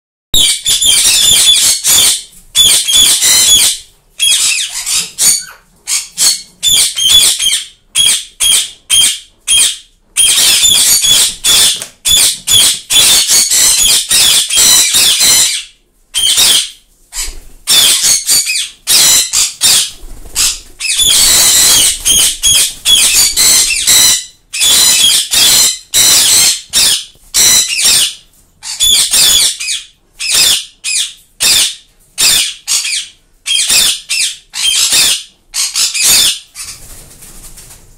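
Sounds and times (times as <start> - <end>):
parrots high-pitched calls: 0.4 - 37.0.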